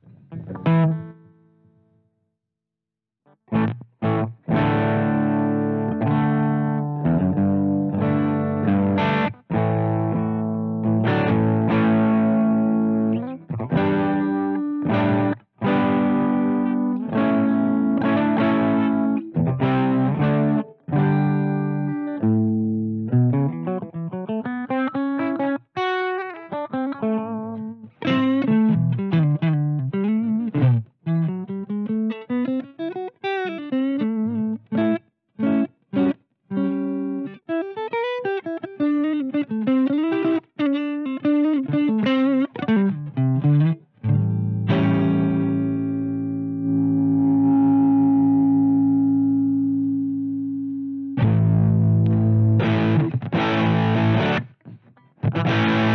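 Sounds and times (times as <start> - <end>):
distorted electric guitar: 0.0 - 1.3, 3.5 - 55.9.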